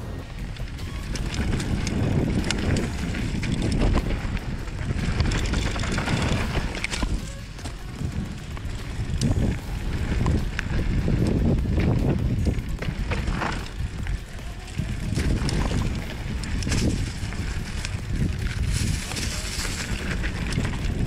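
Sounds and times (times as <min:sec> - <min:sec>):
bike tyre noise on dirt: 0:00.0 - 0:21.0
wind rushing over microphone: 0:00.0 - 0:21.0
bike clicks and knocks: 0:00.1 - 0:21.0.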